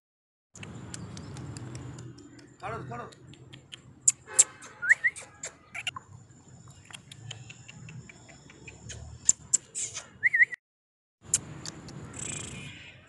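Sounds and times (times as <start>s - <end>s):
small birds chirping: 0.6s - 4.2s, 5.0s - 10.5s, 11.3s - 12.8s.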